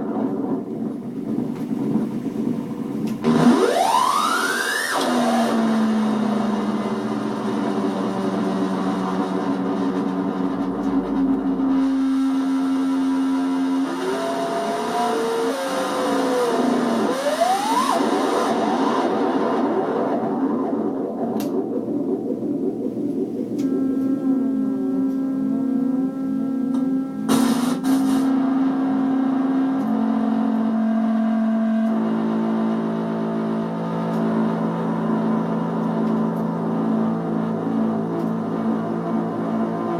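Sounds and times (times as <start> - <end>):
layered synthesizer tone: 0.0 - 39.9.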